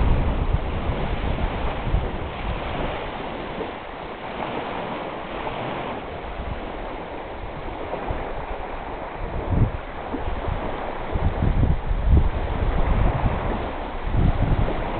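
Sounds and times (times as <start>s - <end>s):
waves washing: 0.0s - 14.9s
wind buffeting microphone: 0.0s - 14.9s.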